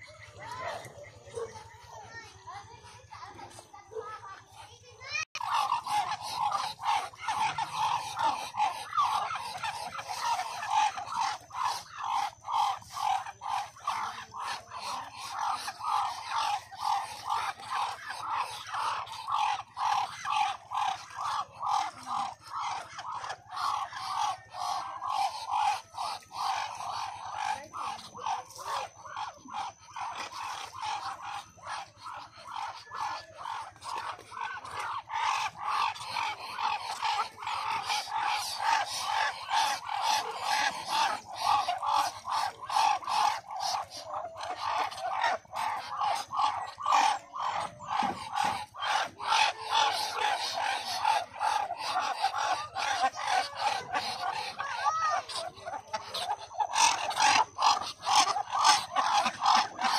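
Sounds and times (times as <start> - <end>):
ducks calling: 0.0 - 59.9.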